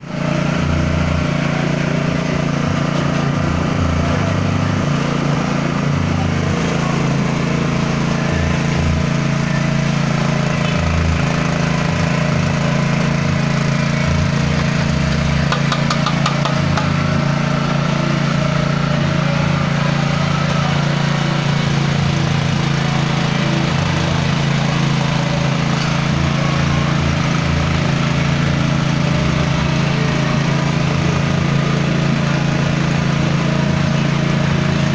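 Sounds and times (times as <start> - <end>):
grinding machine humming: 0.0 - 34.9.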